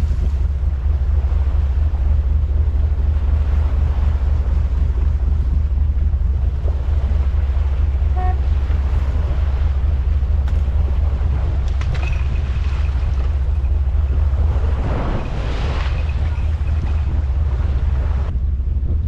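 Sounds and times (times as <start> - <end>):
boat engine droning: 0.0 - 19.0
water washing against hull: 0.0 - 19.0
wind on microphone: 0.0 - 19.0.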